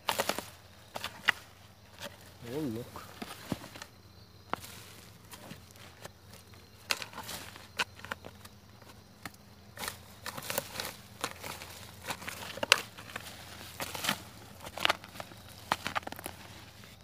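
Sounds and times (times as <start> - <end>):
hoe chopping and scraping soil: 0.0 - 17.0.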